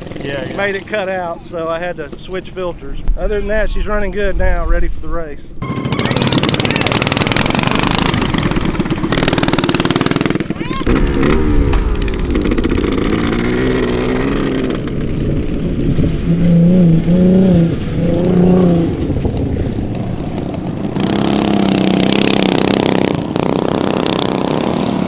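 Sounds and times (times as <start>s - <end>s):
motorcycle and car engines revving: 0.0s - 1.1s, 5.6s - 25.0s.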